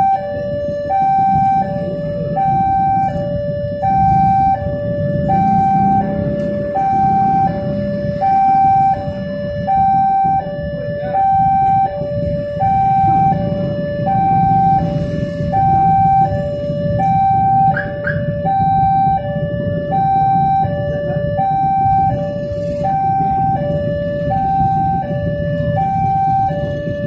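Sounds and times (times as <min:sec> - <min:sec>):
engines rumbling: 0:00.0 - 0:27.0
two-tone level crossing alarm: 0:00.0 - 0:27.0.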